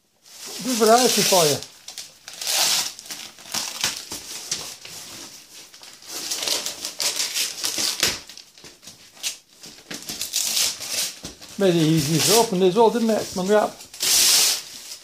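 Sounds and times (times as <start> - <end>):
wrapping paper tearing and crinkling: 0.2 - 15.0.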